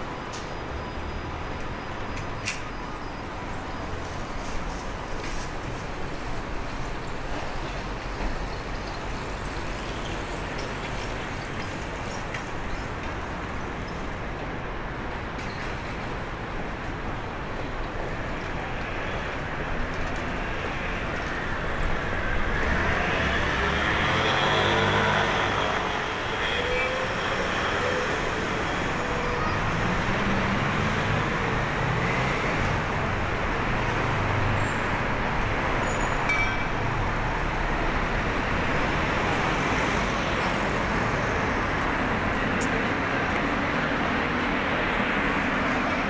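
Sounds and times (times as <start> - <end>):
city street traffic: 0.0 - 46.0.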